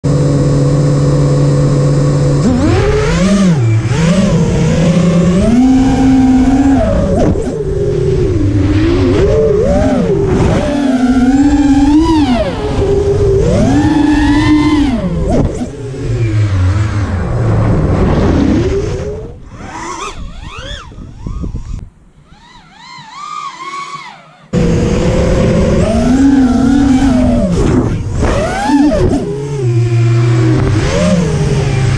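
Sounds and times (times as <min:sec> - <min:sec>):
quadcopter motors whining: 0:00.1 - 0:31.9.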